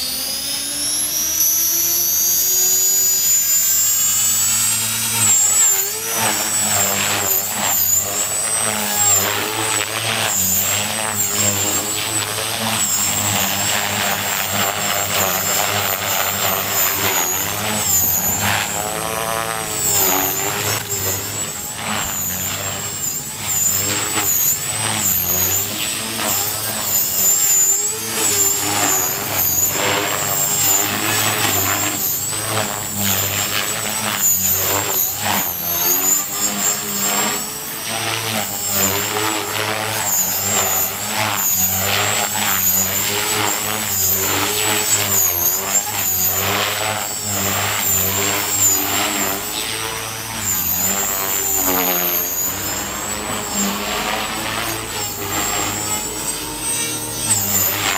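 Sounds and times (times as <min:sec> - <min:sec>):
rc helicopter motor whine: 0:00.0 - 0:57.9
rotor buzz: 0:00.0 - 0:57.9.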